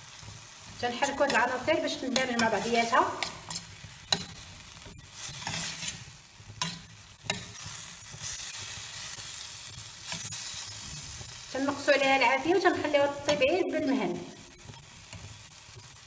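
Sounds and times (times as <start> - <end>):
frying sizzle: 0.0 - 16.0
spoon stirring in frying pan: 0.0 - 16.0.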